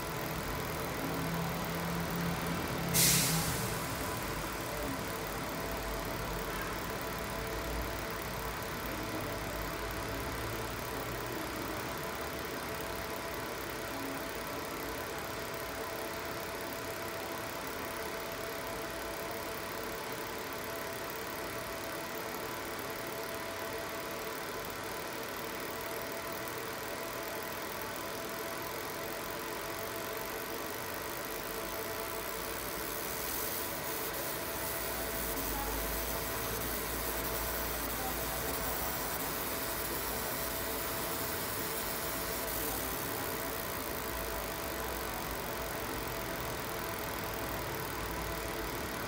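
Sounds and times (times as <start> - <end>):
laser marking machine humming: 0.0 - 49.0.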